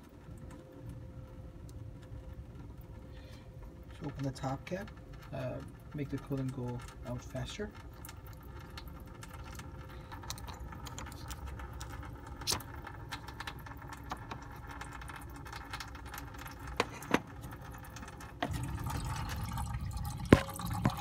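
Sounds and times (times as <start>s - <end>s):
coolant draining into pan: 0.0s - 21.0s.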